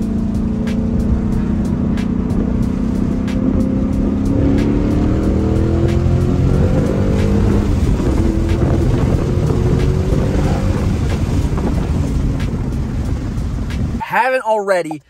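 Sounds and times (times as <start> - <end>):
car engine revving at full throttle: 0.0 - 14.4.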